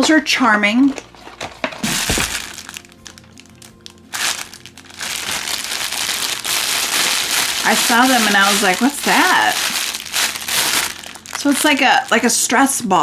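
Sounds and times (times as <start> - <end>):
plastic packaging crinkling: 0.9 - 12.4.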